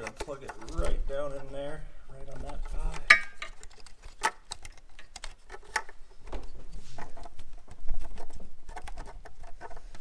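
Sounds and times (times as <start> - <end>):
plastic connectors clicking: 0.0 - 1.4, 2.3 - 10.0
wiring harness rustling: 0.0 - 10.0.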